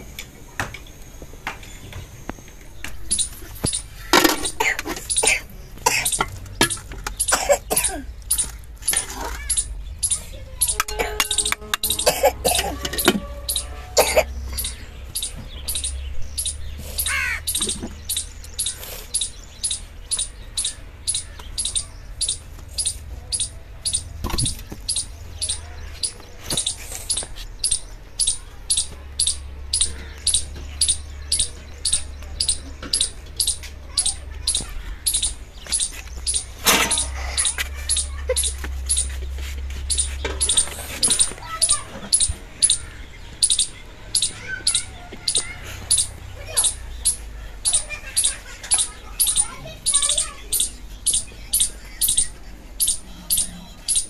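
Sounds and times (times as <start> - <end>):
bird chirping: 0.7 - 54.0.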